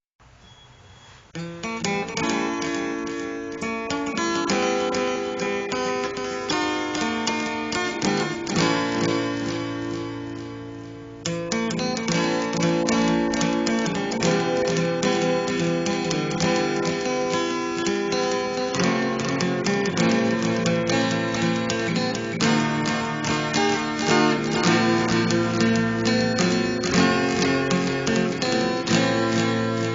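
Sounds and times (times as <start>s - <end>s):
acoustic guitar music: 0.3s - 29.9s.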